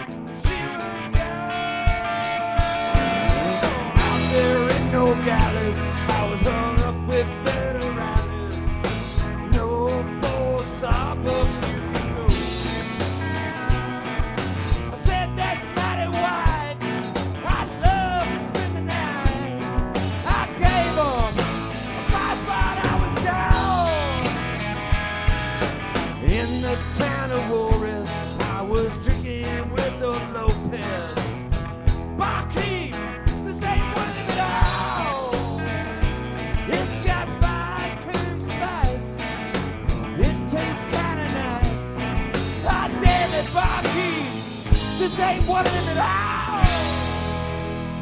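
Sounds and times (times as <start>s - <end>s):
bass: 0.0s - 48.0s
drum kit: 0.0s - 48.0s
sliding electric guitar: 0.0s - 48.0s.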